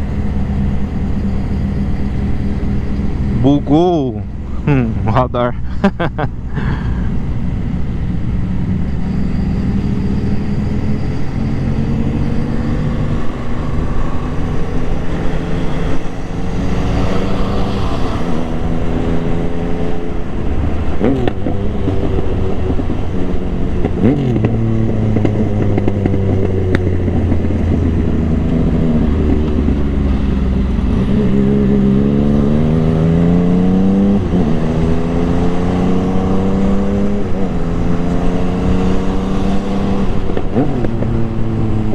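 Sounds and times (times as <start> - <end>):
motorcycle engine accelerating: 5.9 - 41.9.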